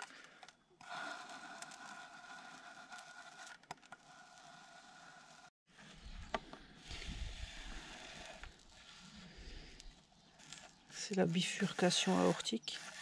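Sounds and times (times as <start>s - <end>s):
tape rasping: 0.0s - 5.5s, 6.3s - 13.0s.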